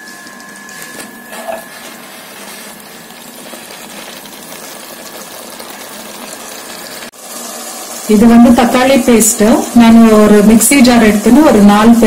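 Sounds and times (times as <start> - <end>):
meat sizzling in oil: 1.4 - 12.0.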